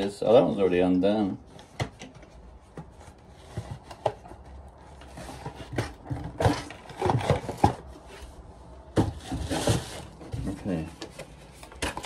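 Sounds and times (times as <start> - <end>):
cardboard scraping plastic: 1.2 - 12.0.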